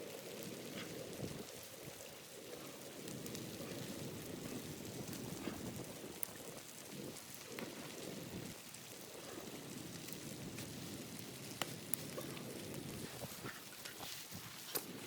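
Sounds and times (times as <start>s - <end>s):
wind gusting against a tent: 0.0s - 15.0s.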